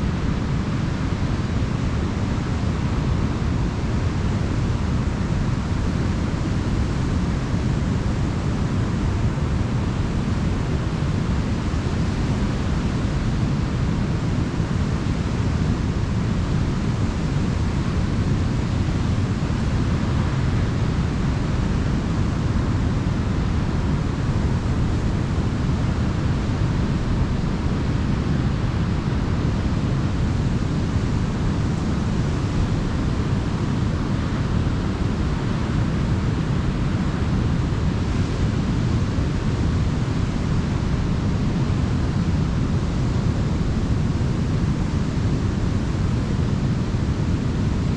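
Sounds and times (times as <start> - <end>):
ocean waves washing on beach: 0.0 - 47.9.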